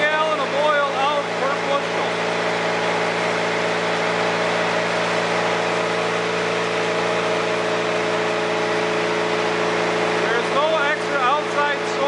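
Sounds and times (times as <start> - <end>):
noisy whir: 0.0 - 12.0
oil expeller machine humming: 0.0 - 12.0.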